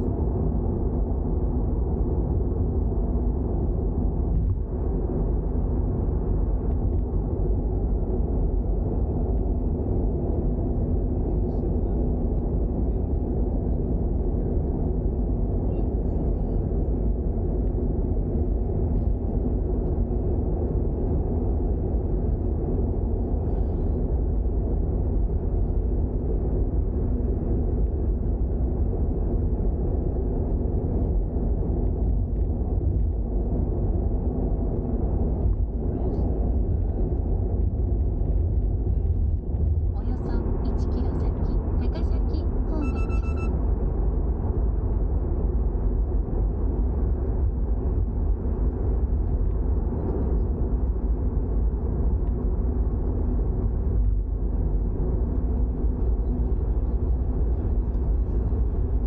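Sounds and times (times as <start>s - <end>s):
car engine rumble: 0.0s - 59.0s
road noise: 0.0s - 59.0s.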